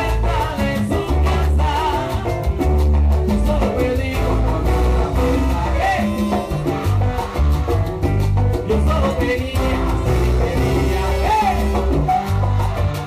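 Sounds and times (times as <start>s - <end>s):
man singing: 0.0s - 7.6s, 8.6s - 13.0s
pulsing bass line: 0.0s - 13.0s
salsa band playing: 0.0s - 13.0s.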